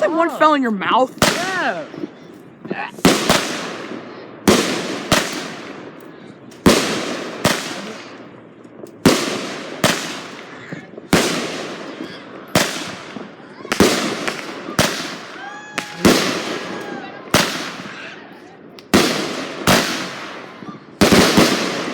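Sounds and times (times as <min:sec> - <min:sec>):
fireworks bangs: 0:00.0 - 0:21.9.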